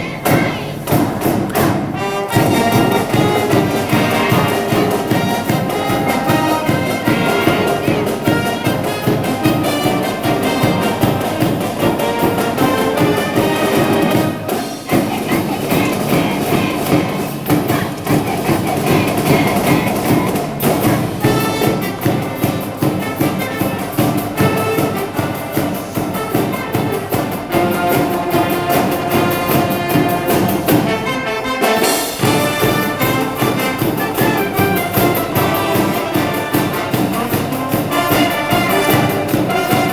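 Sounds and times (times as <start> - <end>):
brass band playing: 0.0 - 39.9.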